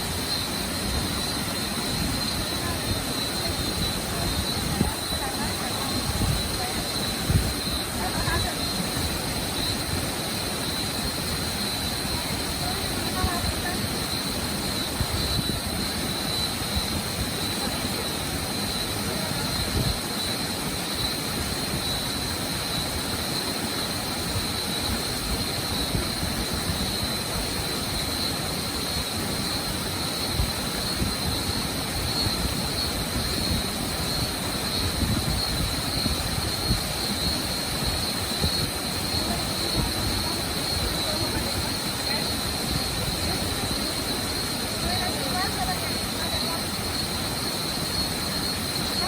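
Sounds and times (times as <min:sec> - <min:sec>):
waterfall roaring: 0:00.0 - 0:49.0.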